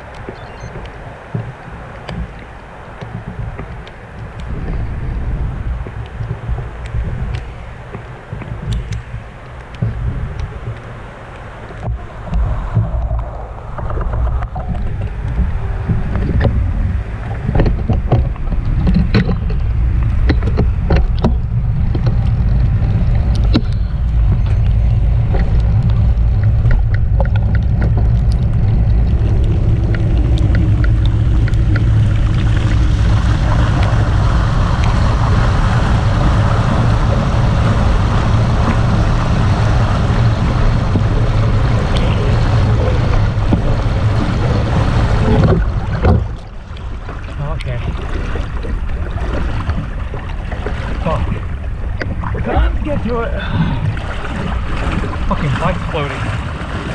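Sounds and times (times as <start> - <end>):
tyres splashing through water: 0.0 - 56.9
wind buffeting microphone: 0.0 - 56.9.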